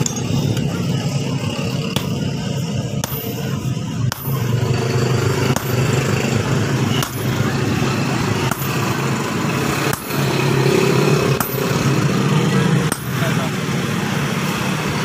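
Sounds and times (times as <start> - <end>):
steady motor drone: 0.0 - 15.0.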